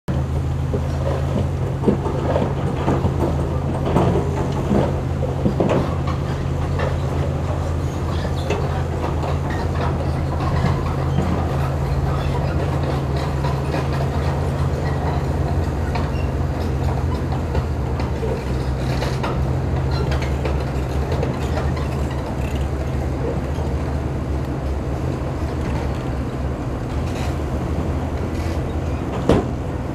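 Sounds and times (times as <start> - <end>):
heavy diesel engines running: 0.1 - 29.9.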